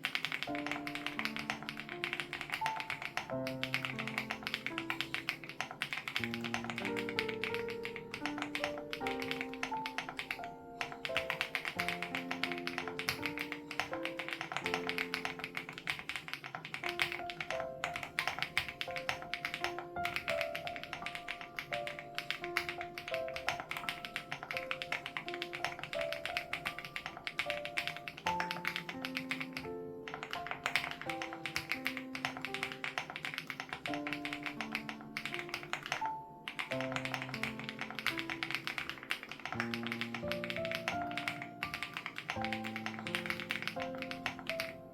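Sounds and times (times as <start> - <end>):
mechanical keyboard typing: 0.0 - 44.9
soft background music: 0.0 - 44.9.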